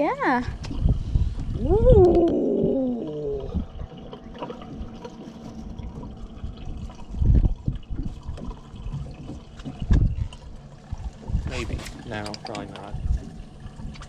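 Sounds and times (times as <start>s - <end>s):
water lapping against boat hull: 0.0s - 14.0s
low rumble: 0.2s - 12.0s.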